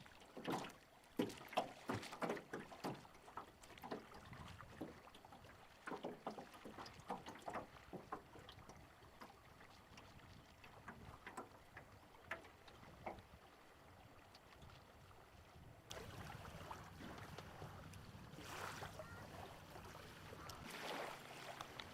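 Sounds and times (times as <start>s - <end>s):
faint moving water: 0.0s - 21.9s
water splashing against boat hull: 0.0s - 21.9s.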